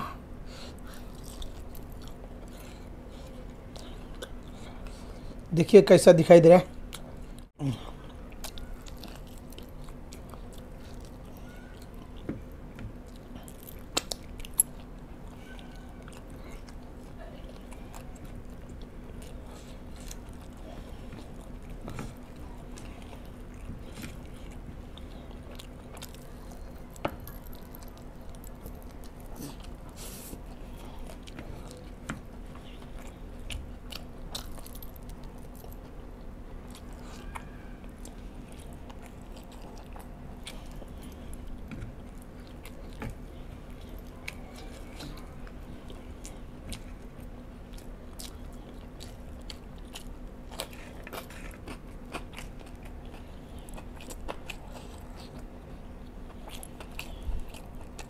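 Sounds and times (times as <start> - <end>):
faint steady hum: 0.0 - 58.0
chewing and biting: 0.5 - 5.5, 6.7 - 58.0.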